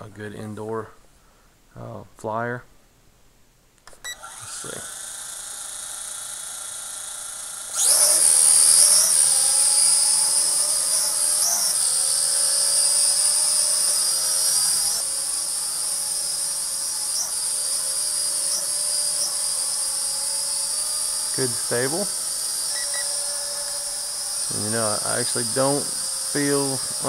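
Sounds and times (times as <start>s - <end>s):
quadcopter motors whining: 4.0s - 27.0s.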